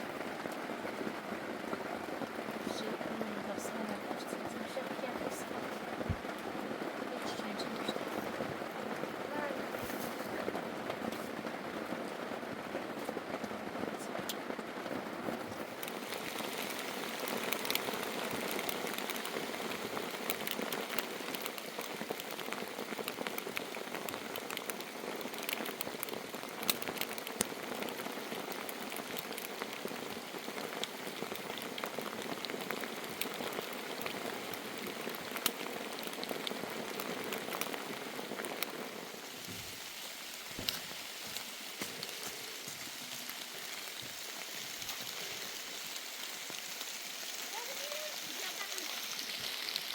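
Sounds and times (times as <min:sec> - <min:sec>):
raindrops ticking on surfaces: 0:00.0 - 0:49.9
steady rain: 0:00.0 - 0:49.9.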